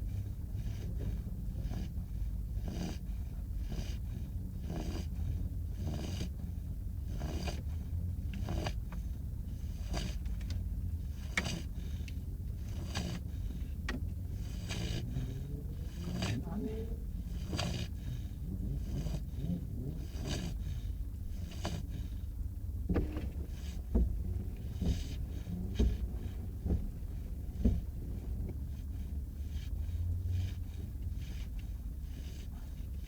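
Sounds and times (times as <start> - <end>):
puppy snoring: 0.0 - 33.0
steady low hum: 0.0 - 33.0.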